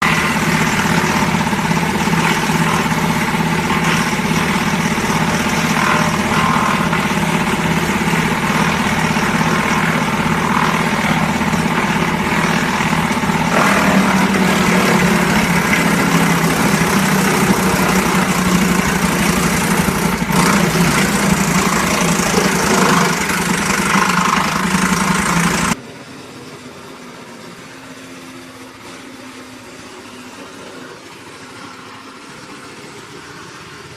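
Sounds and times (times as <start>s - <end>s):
wood chipper engine running: 0.0s - 33.9s.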